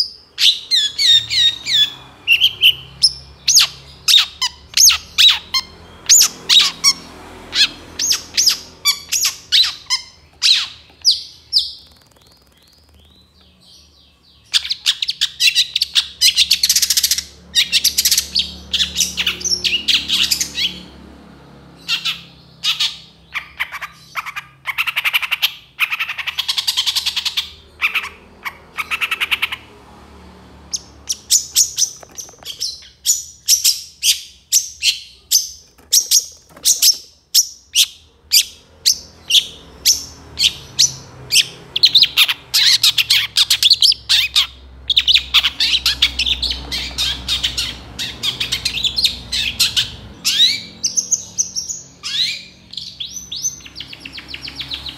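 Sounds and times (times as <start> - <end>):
bird singing harsh chattering song: 0.0 - 54.9.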